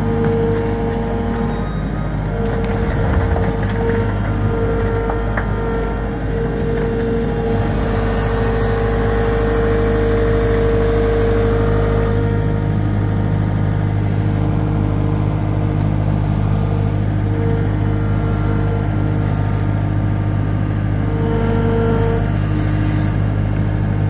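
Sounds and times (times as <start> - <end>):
skid steer engine running: 0.0 - 24.0.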